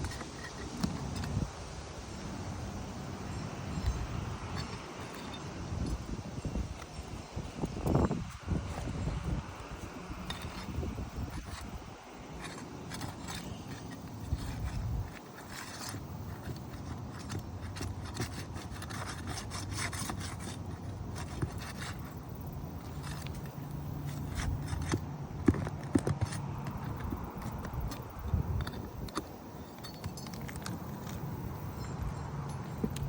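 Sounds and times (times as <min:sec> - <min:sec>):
shingles scraping and rubbing: 0:00.0 - 0:01.8, 0:03.6 - 0:33.0.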